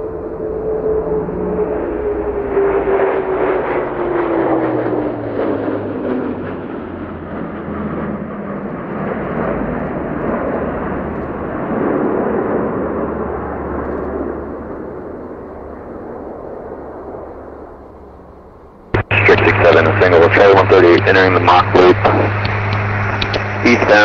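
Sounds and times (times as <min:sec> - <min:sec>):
propeller aircraft passing: 0:00.0 - 0:24.0.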